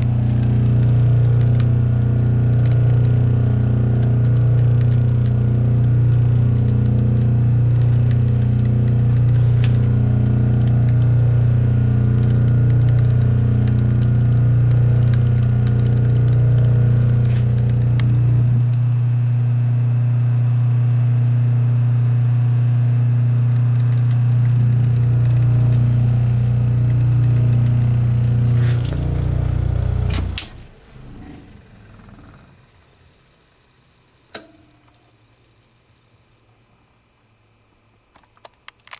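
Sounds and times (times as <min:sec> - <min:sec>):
electric motor humming: 0:00.0 - 0:33.0.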